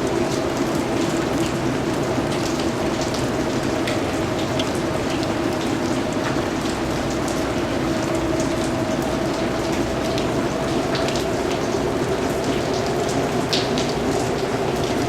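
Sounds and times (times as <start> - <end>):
rain pattering on a surface: 0.0 - 15.0.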